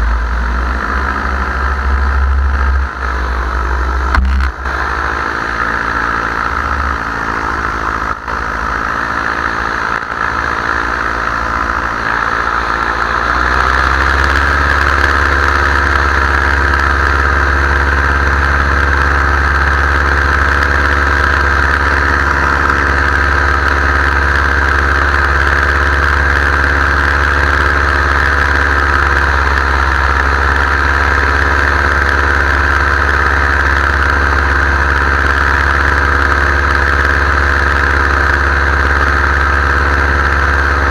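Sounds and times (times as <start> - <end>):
paramotor engine and propeller: 0.0 - 40.9.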